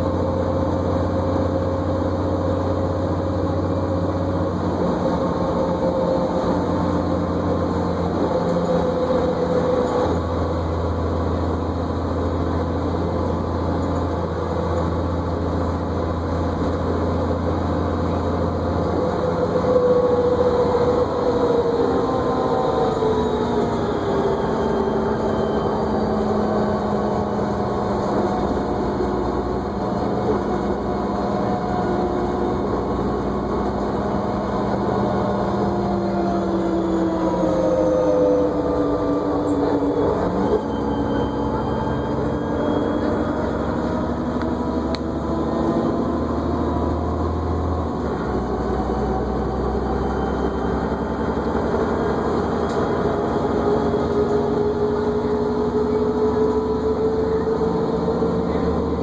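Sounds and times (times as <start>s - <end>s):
bus engine whining: 0.0s - 59.0s.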